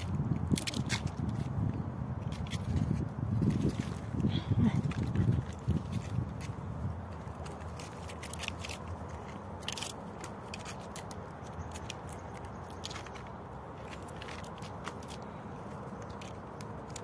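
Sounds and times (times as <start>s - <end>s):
squirrel gnawing and cracking food: 0.0s - 1.6s, 2.2s - 17.0s.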